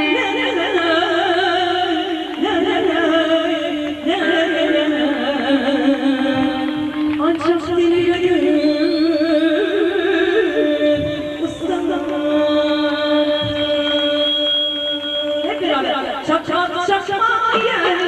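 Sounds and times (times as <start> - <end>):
woman singing into microphone: 0.0 - 18.0.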